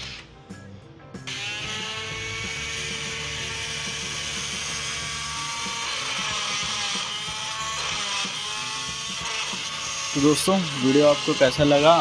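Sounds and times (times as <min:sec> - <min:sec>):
small electric motors whirring: 0:00.0 - 0:00.3, 0:01.3 - 0:12.0.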